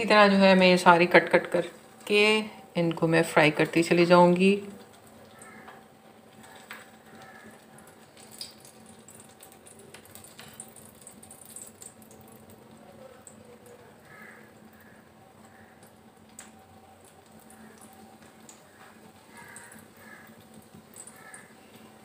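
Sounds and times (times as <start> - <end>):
faint sizzling in oil: 0.0 - 22.0.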